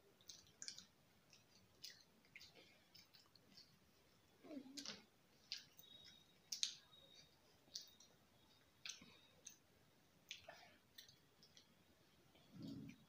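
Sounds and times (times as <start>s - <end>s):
mouth chewing clicks and smacks: 0.1s - 3.8s, 4.7s - 13.0s.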